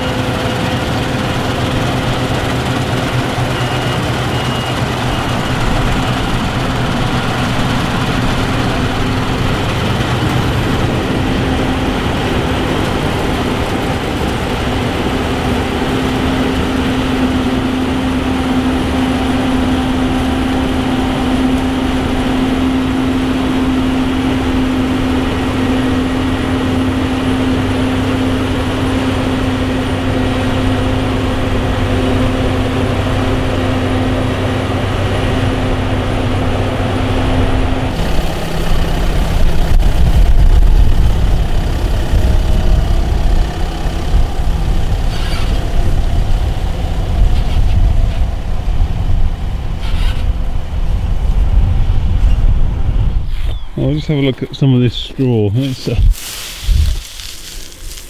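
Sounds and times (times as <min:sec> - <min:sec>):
combine harvester humming: 0:00.0 - 0:58.0
deep tractor engine: 0:00.0 - 0:58.0.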